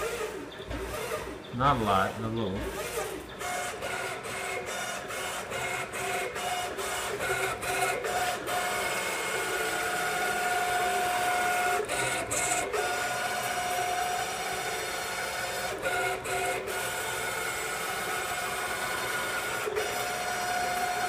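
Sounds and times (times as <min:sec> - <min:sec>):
servo motors whining: 0:00.0 - 0:21.0.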